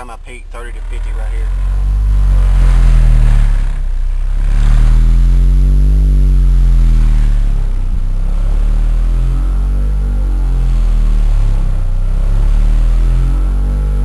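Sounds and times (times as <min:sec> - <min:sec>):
subwoofer bass music: 0:00.0 - 0:14.0.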